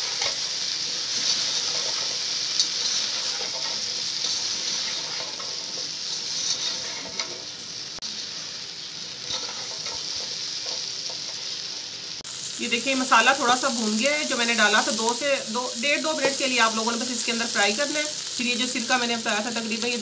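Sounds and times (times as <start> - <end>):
okra sizzling in oil: 0.0 - 20.0.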